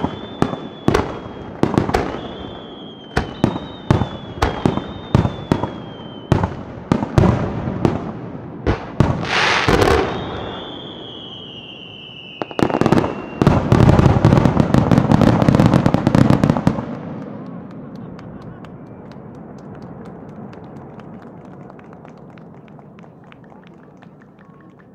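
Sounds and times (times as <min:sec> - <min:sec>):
firework bangs and crackling: 0:00.0 - 0:24.9.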